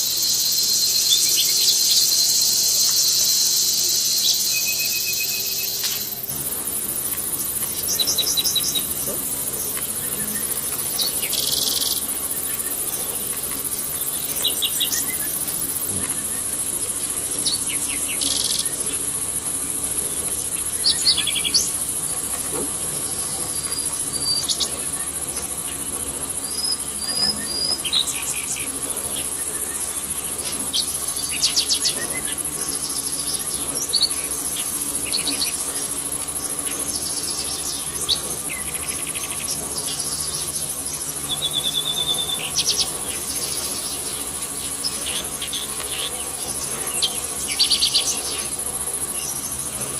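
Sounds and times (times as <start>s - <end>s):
bird chirps and trills: 0.0s - 22.4s, 23.0s - 49.9s
insects droning: 0.0s - 49.9s.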